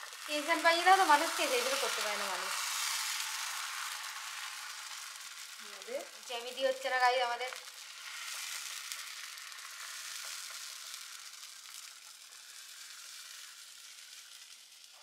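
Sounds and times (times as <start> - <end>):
batter sizzling in a frying pan: 0.0 - 15.0.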